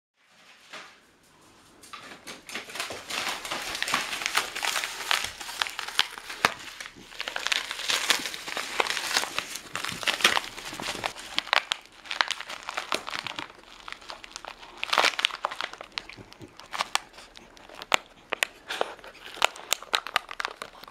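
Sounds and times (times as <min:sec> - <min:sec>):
wrapper crinkling and ripping: 0:02.0 - 0:20.9.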